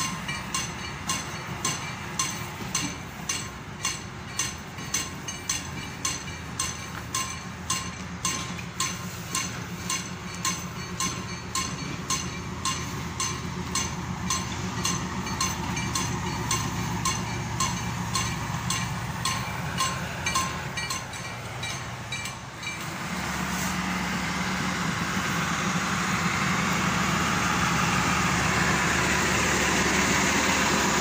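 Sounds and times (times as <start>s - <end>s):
level crossing warning bell: 0.0s - 31.0s
train rumbling past: 0.0s - 31.0s.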